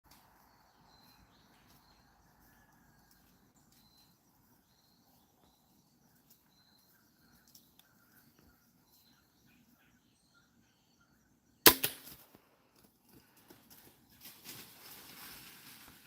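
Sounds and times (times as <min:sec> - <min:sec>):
faint outdoor ambience: 0:00.1 - 0:16.0.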